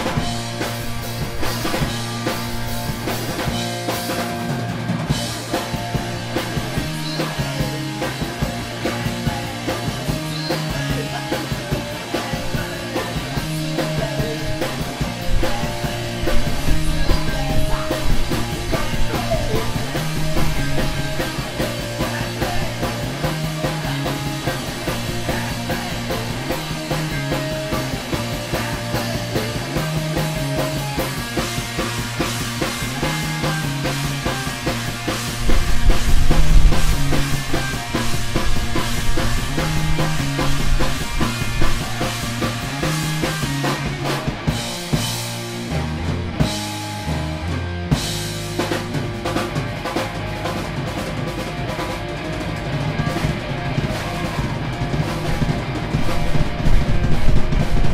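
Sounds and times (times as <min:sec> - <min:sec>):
bass guitar: 0:00.0 - 0:57.9
distorted electric guitar: 0:00.0 - 0:57.9
drum kit: 0:00.0 - 0:57.9.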